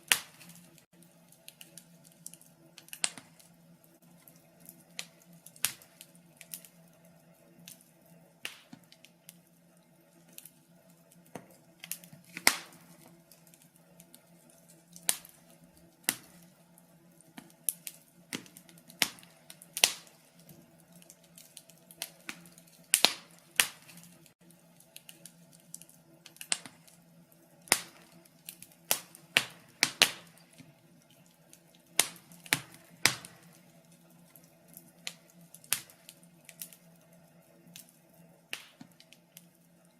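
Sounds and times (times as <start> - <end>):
faint steady hum: 0.0 - 39.9
wood fire crackling and popping: 0.0 - 39.9.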